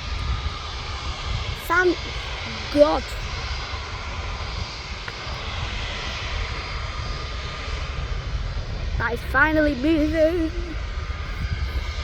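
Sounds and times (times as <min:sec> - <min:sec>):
faint engine whine: 0:00.0 - 0:12.0
jet engines running: 0:00.0 - 0:12.0.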